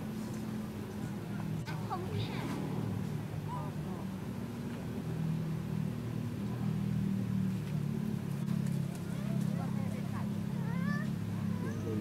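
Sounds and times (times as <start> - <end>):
engine running low hum: 0.0 - 12.0.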